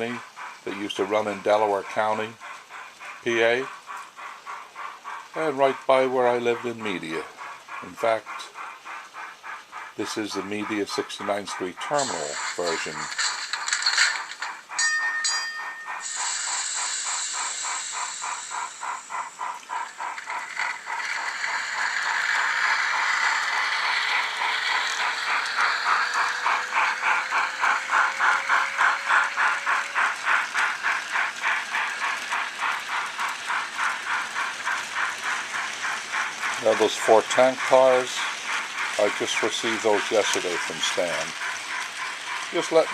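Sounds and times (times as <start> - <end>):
hiss of steam: 0.0 - 42.9
steam locomotive exhaust chuffs: 0.0 - 42.9.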